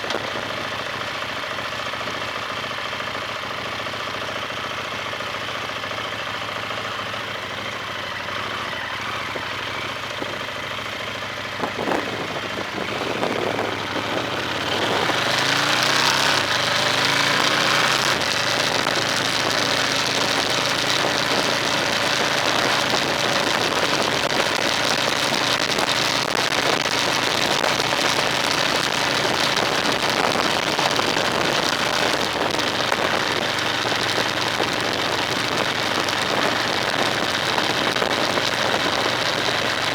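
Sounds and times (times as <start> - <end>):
car engine idling and accelerating: 0.0 - 39.9
road tyre noise: 0.0 - 39.9.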